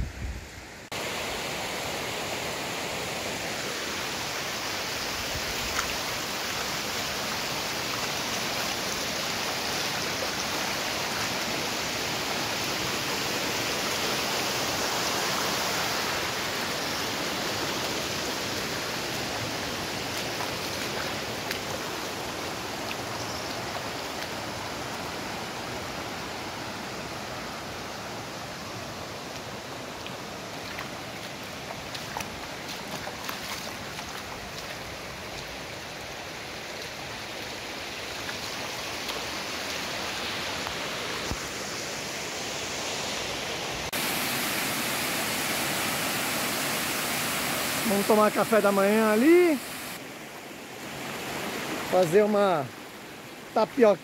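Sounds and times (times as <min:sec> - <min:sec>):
river running over rocks: 0:00.0 - 0:54.0.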